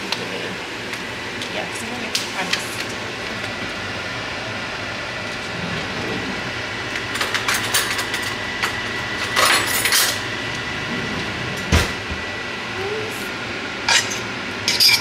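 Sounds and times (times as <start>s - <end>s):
steady rushing stove noise: 0.0s - 15.0s.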